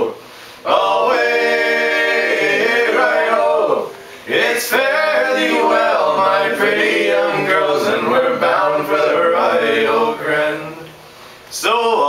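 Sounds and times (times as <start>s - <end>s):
men singing unaccompanied: 0.6s - 11.0s.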